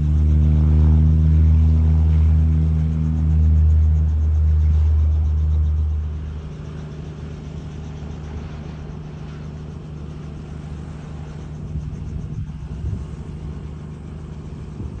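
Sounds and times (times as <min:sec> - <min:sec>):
heavy low rumble: 0:00.0 - 0:15.0
light aircraft engine drone: 0:00.0 - 0:15.0.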